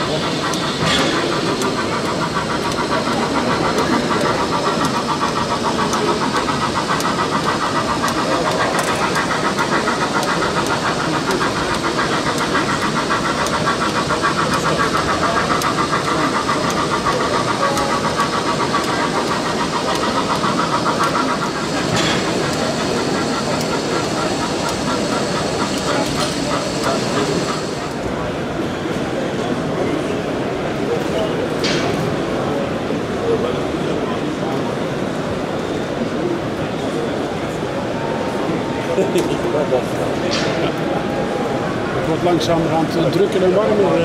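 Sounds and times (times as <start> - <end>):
model train mechanical pulsing: 0.0 - 44.0.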